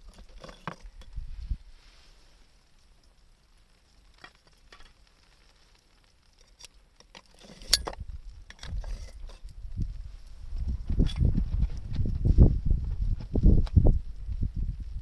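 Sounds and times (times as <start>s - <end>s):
faint ticks and crackles: 0.0s - 15.0s.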